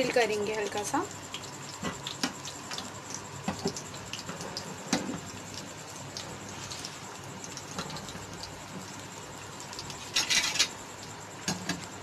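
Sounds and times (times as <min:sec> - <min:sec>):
meat crackling over gas flame: 0:00.0 - 0:12.0.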